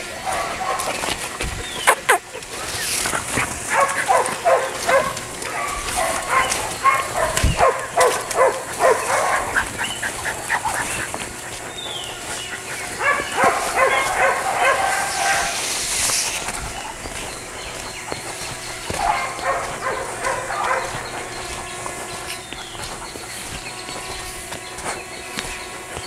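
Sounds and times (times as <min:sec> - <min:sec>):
dog barking: 0:00.2 - 0:01.2, 0:01.8 - 0:23.3.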